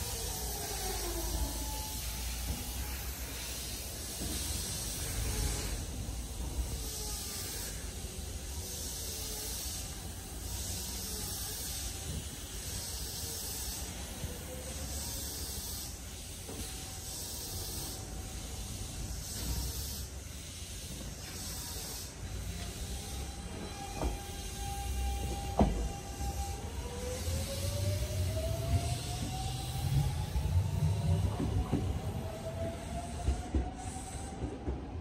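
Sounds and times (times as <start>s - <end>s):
electric train hissing: 0.0s - 35.0s.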